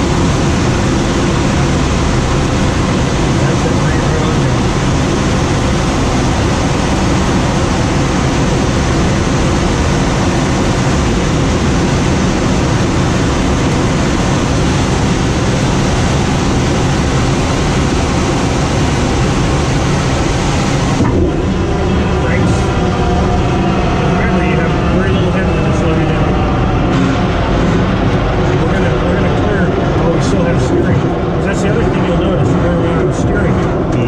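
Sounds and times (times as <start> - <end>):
loud rushing air in cockpit: 0.0 - 34.0.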